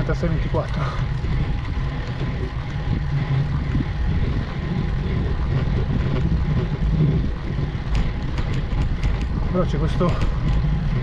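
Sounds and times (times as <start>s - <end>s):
bike tyre road noise: 0.0s - 11.0s
wind rumble on microphone: 0.0s - 11.0s.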